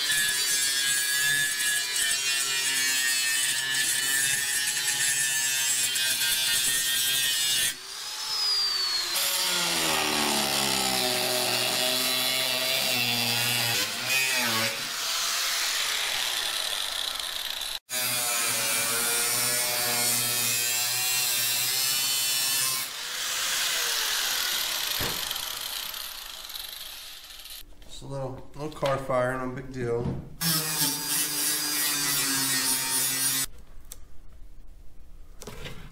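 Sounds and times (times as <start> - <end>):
angle grinder cutting metal: 0.0 - 27.6, 30.4 - 33.5.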